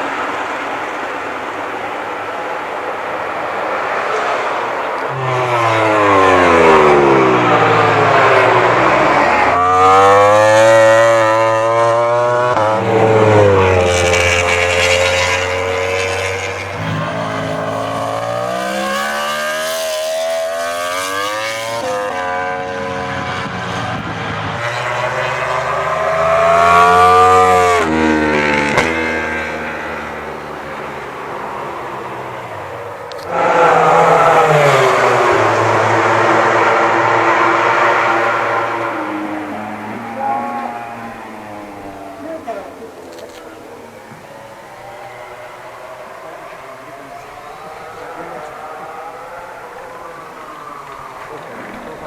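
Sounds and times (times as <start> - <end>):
racing motorcycle engine revving: 0.0 - 52.0.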